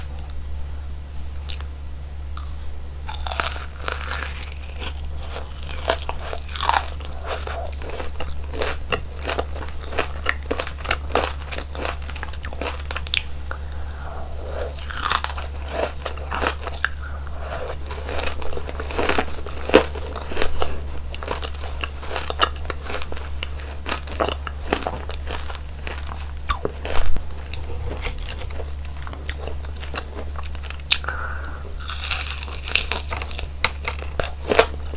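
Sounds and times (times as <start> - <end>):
steady low hum: 0.0 - 34.9
crunchy chewing of sweets: 1.3 - 34.9.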